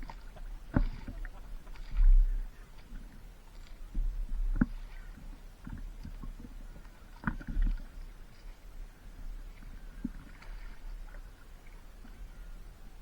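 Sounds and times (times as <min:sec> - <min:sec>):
water sloshing: 0:00.0 - 0:12.7
paddle strokes in water: 0:00.0 - 0:13.0.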